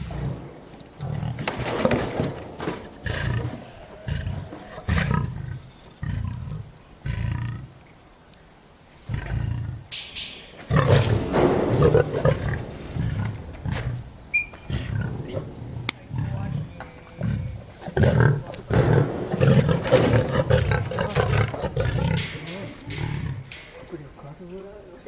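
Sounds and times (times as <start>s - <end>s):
lion growling: 0.0s - 7.8s, 9.0s - 9.9s, 10.6s - 24.3s.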